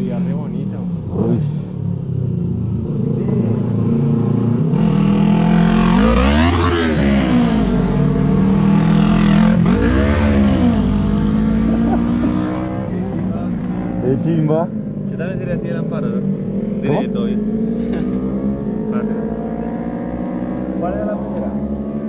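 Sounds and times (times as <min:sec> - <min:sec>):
steady engine drone: 0:00.0 - 0:22.0
motorcycles riding past: 0:01.0 - 0:22.0.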